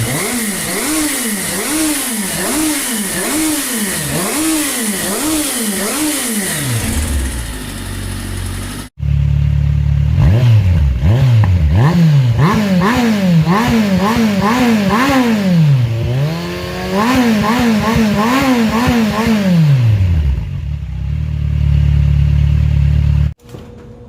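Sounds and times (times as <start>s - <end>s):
motorcycle engine revving and idling: 0.0s - 23.4s.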